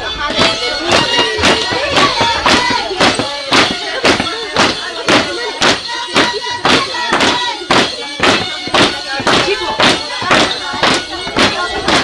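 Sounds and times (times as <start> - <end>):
heavy drum beat: 0.0 - 12.0
high wavering melody: 0.0 - 12.0
voices singing: 0.0 - 12.0.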